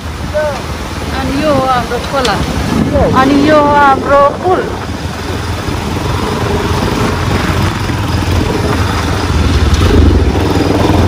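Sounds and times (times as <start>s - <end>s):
motorbike engine running: 0.0s - 11.0s
road and wind noise: 0.0s - 11.0s.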